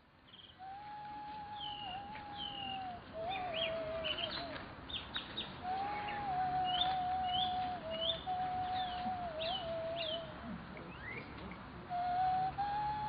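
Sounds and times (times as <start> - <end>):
birds chirping: 0.2 - 11.7
flute-like wind instrument melody: 0.6 - 4.8, 5.6 - 11.3, 11.9 - 13.0.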